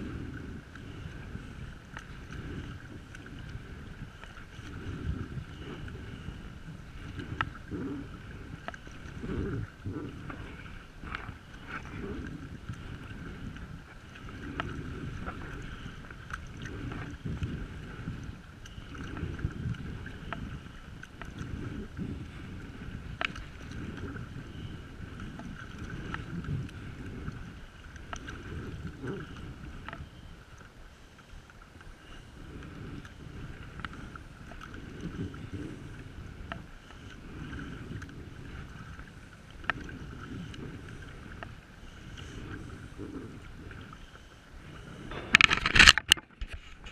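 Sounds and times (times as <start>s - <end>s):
wind rumble on microphone: 0.0s - 30.8s, 31.7s - 46.9s
dripping water ticks: 0.0s - 44.3s
paddle strokes through water: 0.0s - 46.9s
water splashing against hull: 0.0s - 46.9s.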